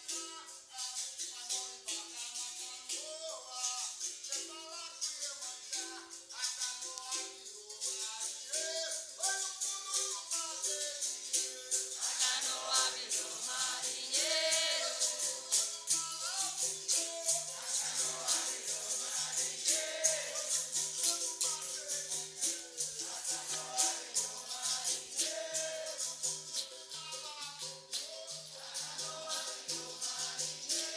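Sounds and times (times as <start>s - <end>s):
people singing: 0.0s - 30.9s
shaker rattles: 0.0s - 30.9s
tambourine jingles: 0.0s - 30.9s.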